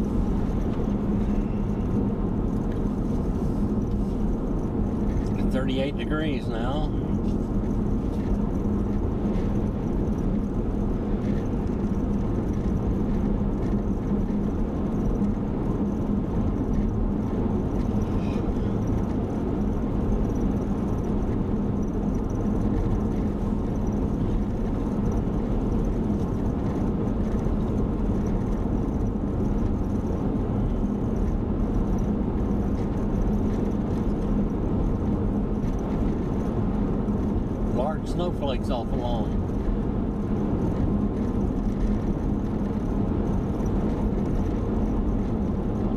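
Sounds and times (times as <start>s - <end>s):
car cabin road drone: 0.0s - 45.9s.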